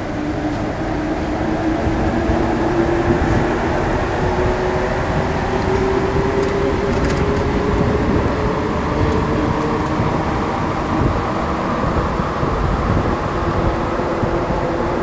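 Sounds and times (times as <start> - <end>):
train running rumble: 0.0 - 15.0
train whine: 0.0 - 15.0.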